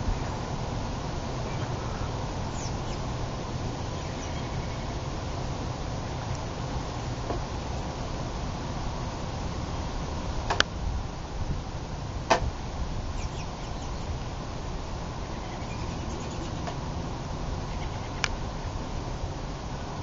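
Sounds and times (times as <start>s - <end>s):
snowstorm rushing noise: 0.0s - 20.0s
wind rumble on microphone: 0.0s - 20.0s.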